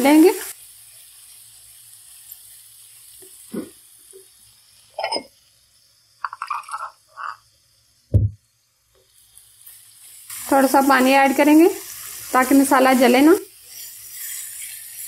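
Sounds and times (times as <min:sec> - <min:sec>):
sizzling in oil: 0:00.0 - 0:15.0.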